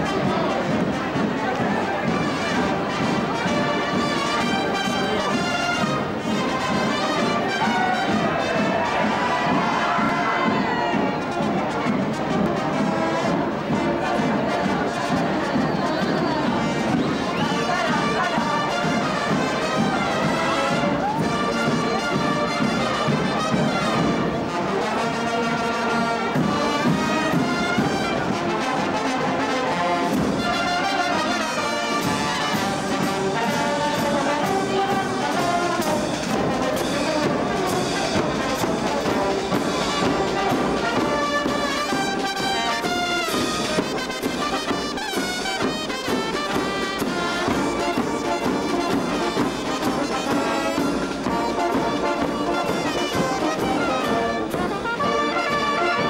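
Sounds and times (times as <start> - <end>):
marching brass band playing: 0.0 - 56.0.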